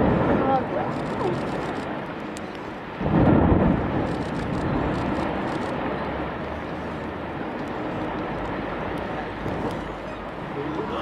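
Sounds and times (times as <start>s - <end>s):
thunder rumble: 0.0s - 10.0s
steady storm rushing: 0.0s - 11.0s.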